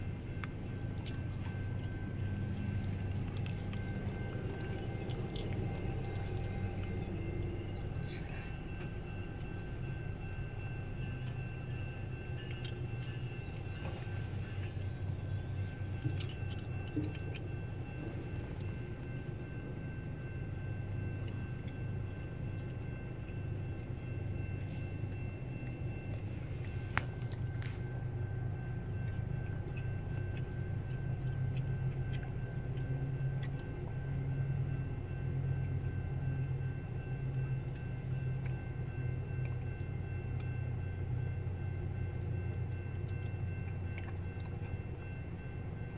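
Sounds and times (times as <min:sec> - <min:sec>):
diesel locomotive engine rumble: 0:00.0 - 0:45.9.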